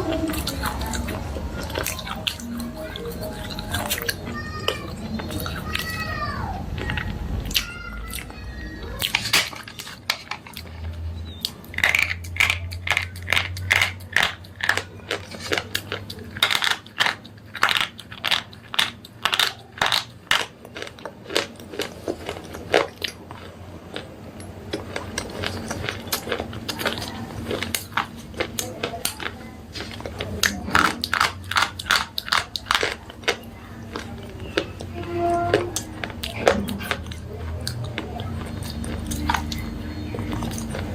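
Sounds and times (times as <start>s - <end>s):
slate pencils being chewed: 0.0s - 40.9s.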